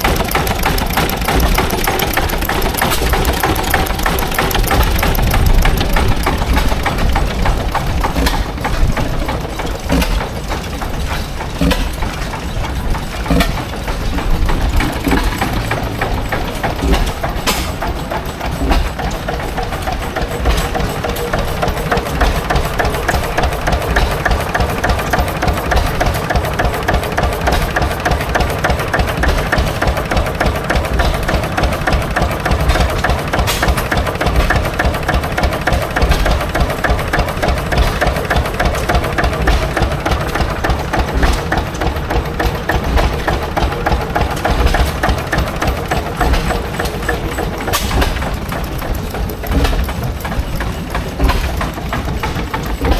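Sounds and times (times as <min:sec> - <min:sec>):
antique engine chugging: 0:00.0 - 0:52.9.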